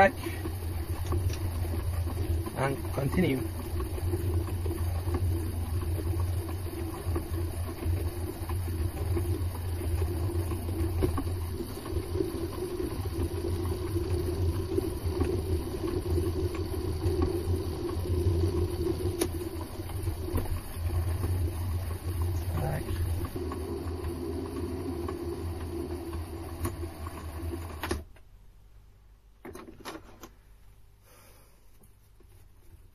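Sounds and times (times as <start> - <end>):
metal lathe motor hum: 0.0 - 28.0.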